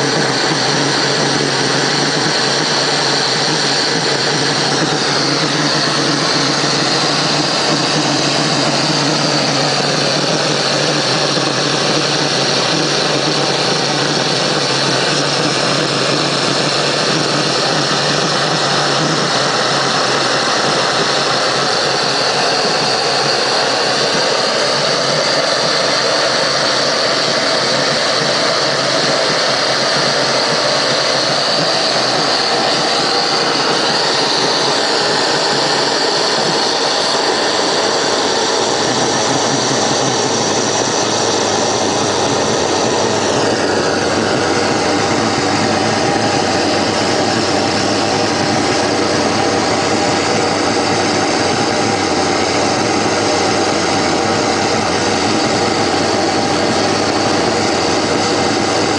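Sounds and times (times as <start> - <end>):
furnace burner roaring: 0.0 - 58.9.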